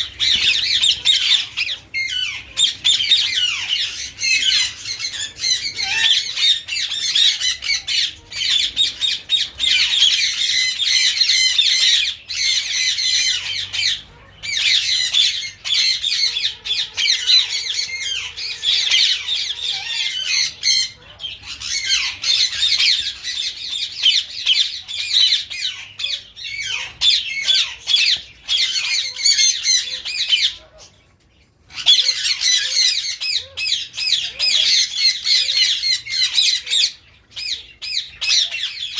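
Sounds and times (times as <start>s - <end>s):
caged birds chattering: 0.0s - 38.9s.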